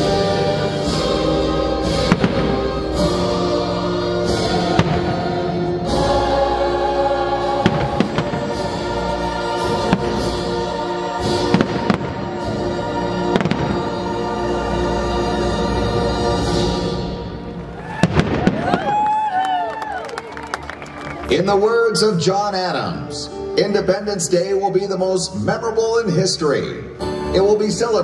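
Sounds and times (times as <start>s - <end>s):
music soundtrack: 0.0s - 18.8s, 19.4s - 28.0s.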